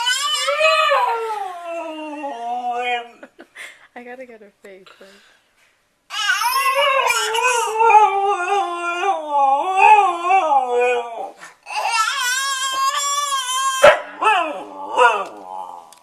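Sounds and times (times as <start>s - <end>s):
pet wailing cries: 0.0s - 3.3s, 6.1s - 16.0s.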